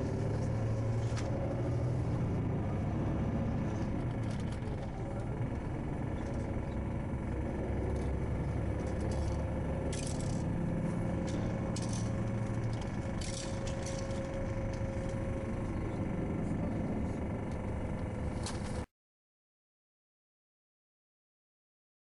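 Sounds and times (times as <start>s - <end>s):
moving vehicle rumble: 0.0s - 18.9s.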